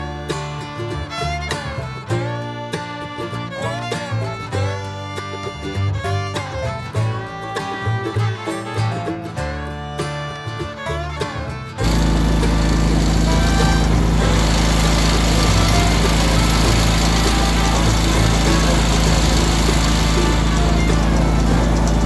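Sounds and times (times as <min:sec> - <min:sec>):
upbeat bluegrass tune: 0:00.0 - 0:22.0.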